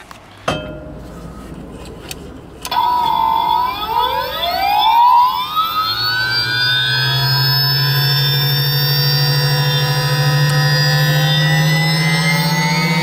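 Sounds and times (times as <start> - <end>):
low steady hum: 0.0 - 11.3
jet engine spooling up: 1.0 - 13.0.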